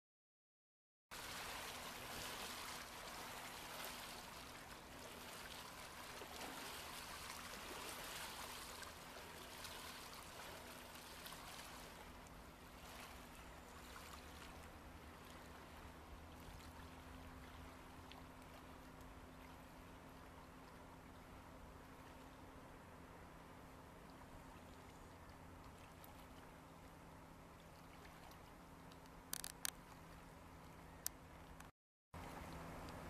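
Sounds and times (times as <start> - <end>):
river water noise: 1.1 - 33.0.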